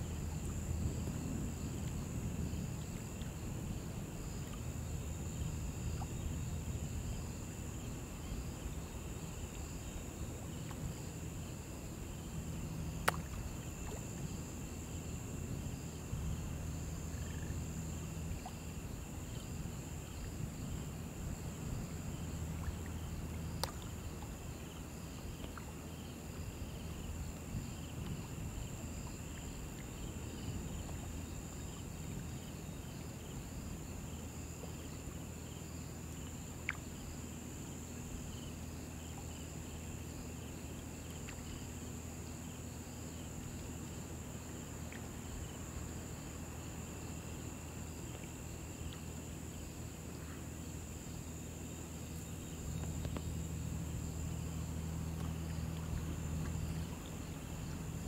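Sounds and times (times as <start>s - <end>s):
insects buzzing and chirping: 0.0s - 58.0s
shallow river flowing: 0.0s - 58.0s.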